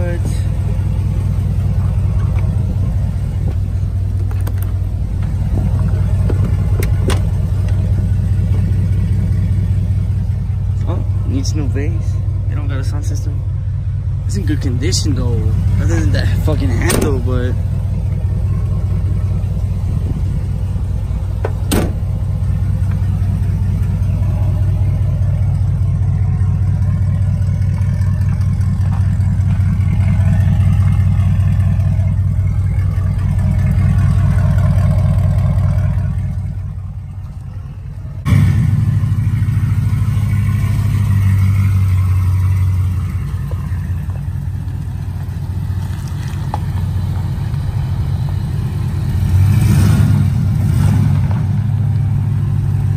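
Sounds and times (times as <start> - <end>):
truck engine and road rumble: 0.0 - 52.9.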